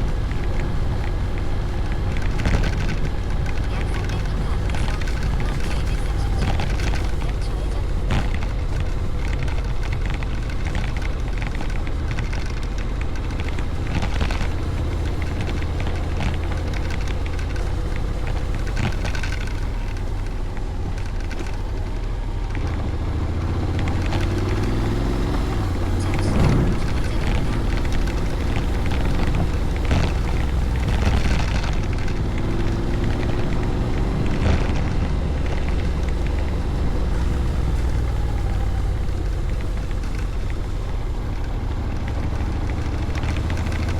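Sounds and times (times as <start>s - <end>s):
scooter engine running: 0.0s - 43.9s
wind rumble: 0.0s - 43.9s.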